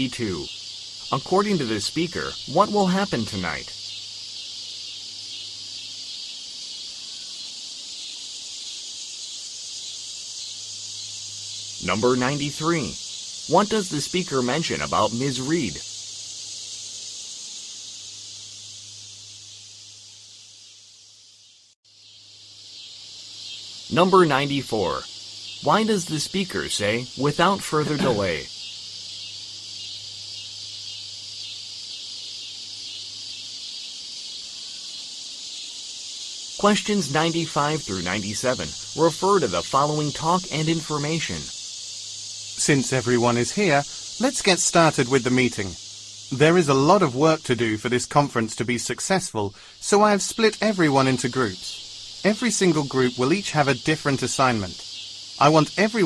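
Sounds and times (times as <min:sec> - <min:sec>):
high hiss: 0:00.0 - 0:56.0.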